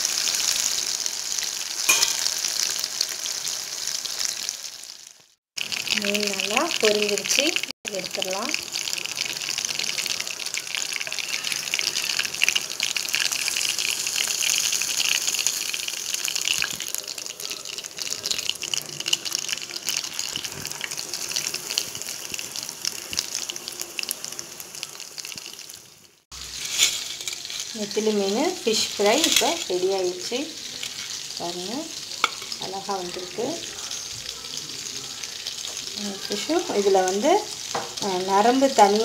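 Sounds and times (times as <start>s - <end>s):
fish deep-frying in oil: 0.0s - 39.0s.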